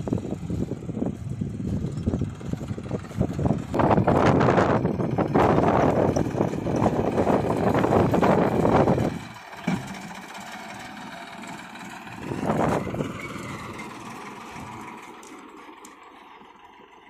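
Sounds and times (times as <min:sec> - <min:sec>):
tractor diesel engine: 0:00.0 - 0:17.0.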